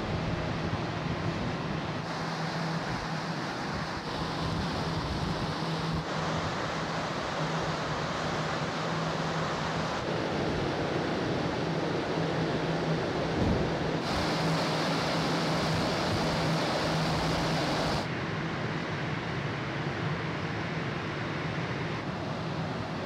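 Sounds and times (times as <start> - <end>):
ship engine hum: 0.0 - 18.6, 20.6 - 23.0.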